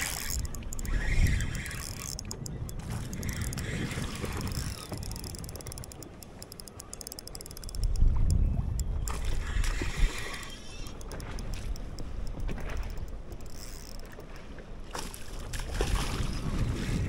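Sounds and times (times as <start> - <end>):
wind buffeting microphone: 0.0 - 14.5, 15.4 - 17.0
water splashing against boat: 0.0 - 17.0.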